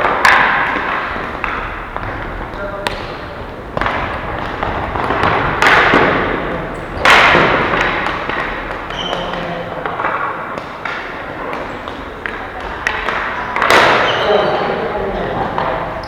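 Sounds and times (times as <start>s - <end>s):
sticks and ball clacking: 0.0s - 16.0s.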